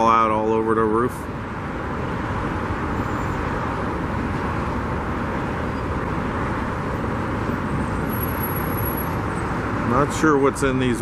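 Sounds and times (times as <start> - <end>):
road traffic roar: 0.0 - 11.0.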